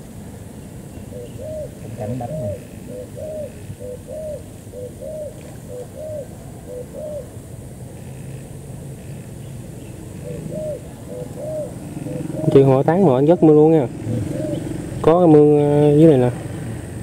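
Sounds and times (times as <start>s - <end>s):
dove cooing: 1.0s - 15.1s.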